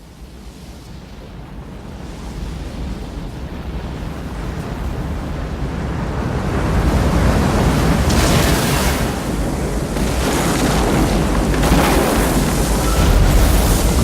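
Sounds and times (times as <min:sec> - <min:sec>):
rushing wash of water: 0:01.6 - 0:14.0.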